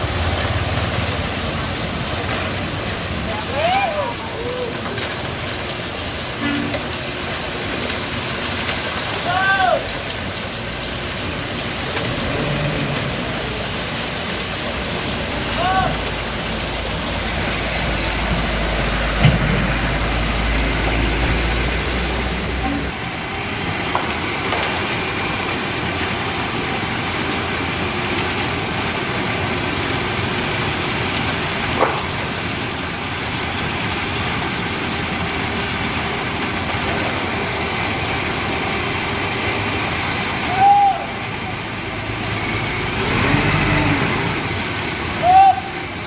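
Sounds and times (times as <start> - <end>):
concrete mixer truck running: 0.0 - 46.0.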